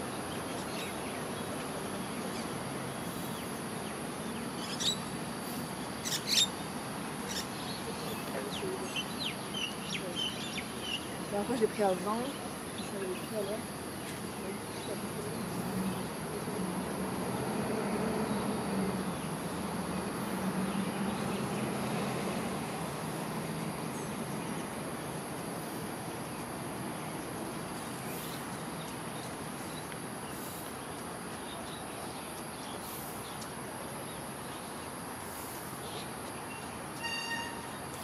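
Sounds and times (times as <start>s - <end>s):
city hum: 0.0s - 38.0s.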